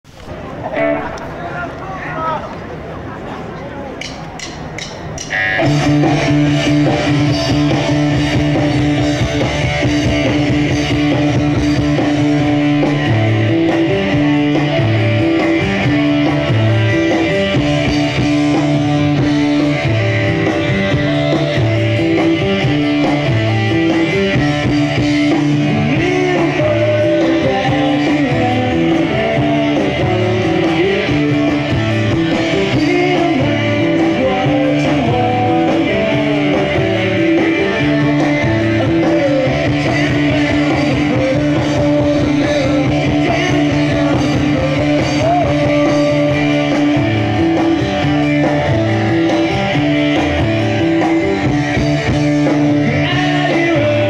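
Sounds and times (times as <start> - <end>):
electric guitars: 0.1 - 54.0
bass line: 5.2 - 54.0.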